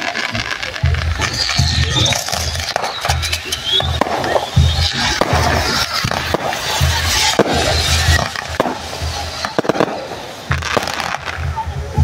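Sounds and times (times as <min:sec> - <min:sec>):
firework bangs: 0:00.0 - 0:12.0
fireworks hissing: 0:00.0 - 0:12.0
music with pulsing beat: 0:00.1 - 0:12.0.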